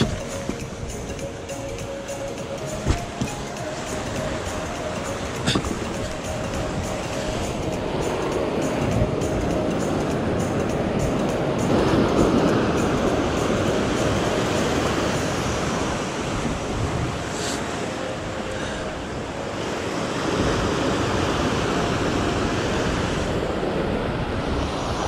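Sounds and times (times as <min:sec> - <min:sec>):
ocean surf washing around rocks: 0:00.0 - 0:25.0.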